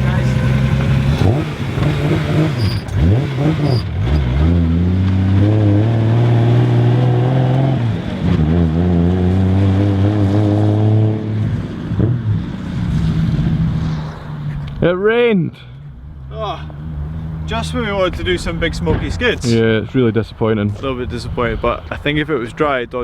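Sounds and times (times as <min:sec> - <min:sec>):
car engine accelerating: 0:00.0 - 0:14.9, 0:15.6 - 0:22.6.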